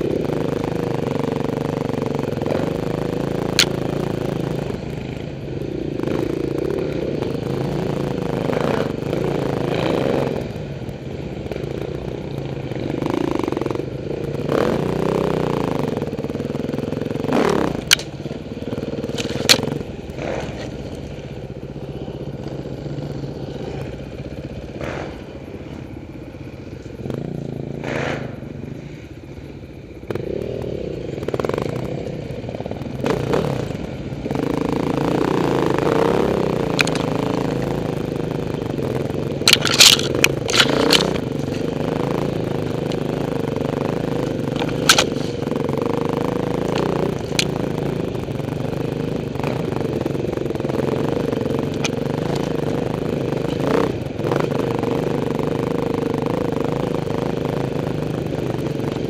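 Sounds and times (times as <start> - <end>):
dirt bike engine revving: 0.0 - 29.2, 30.0 - 59.0.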